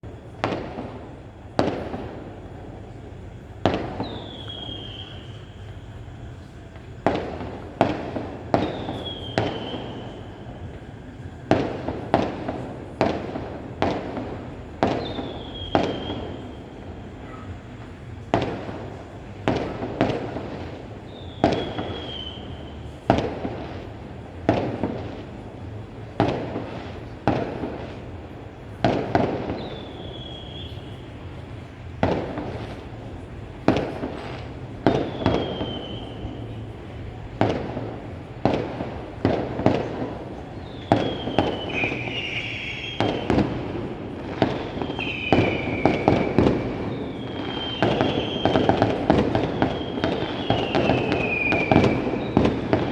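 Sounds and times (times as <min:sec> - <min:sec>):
falling firework whistles: 0:00.0 - 0:52.9
fireworks bangs: 0:00.0 - 0:52.9.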